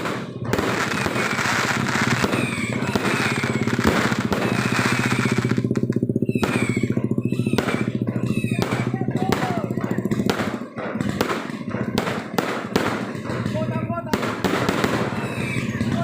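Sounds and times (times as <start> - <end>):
falling whistles of fireworks: 0.0 - 16.0
fireworks crackling and popping: 0.0 - 16.0
low pulsing drone: 0.0 - 16.0.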